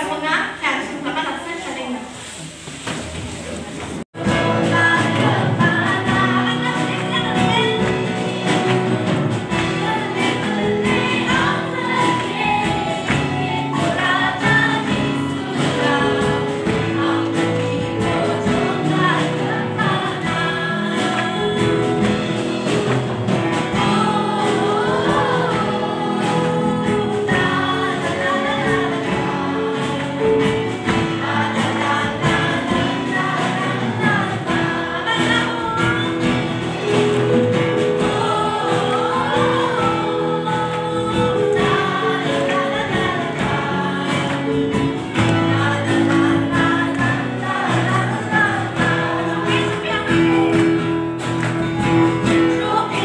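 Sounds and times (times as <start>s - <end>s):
congregation singing a hymn: 4.2s - 53.0s.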